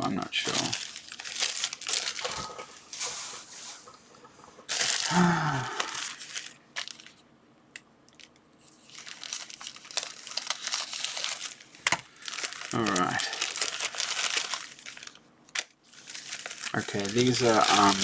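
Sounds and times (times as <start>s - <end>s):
plastic bags crinkling: 0.2s - 7.2s, 8.1s - 18.0s.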